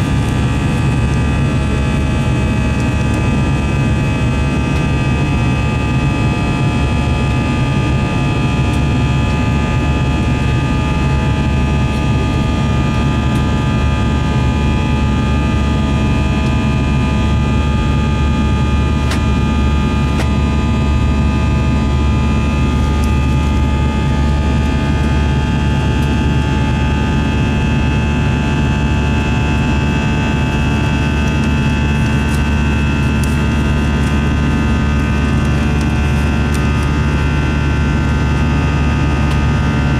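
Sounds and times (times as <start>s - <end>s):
jet engine and airflow rush: 0.0s - 39.9s
low droning hum: 0.0s - 39.9s
steady whining tones: 0.0s - 39.9s.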